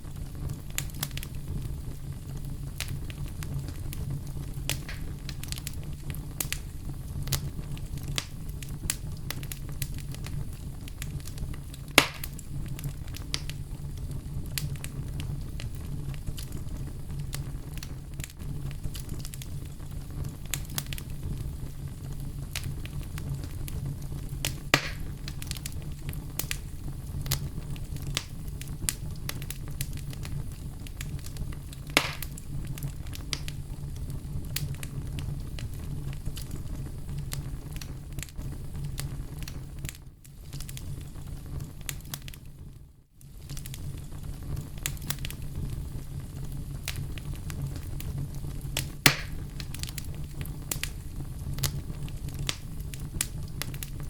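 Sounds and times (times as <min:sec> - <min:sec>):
flames rumbling: 0:00.0 - 0:54.0
wood crackling and popping: 0:00.0 - 0:54.0.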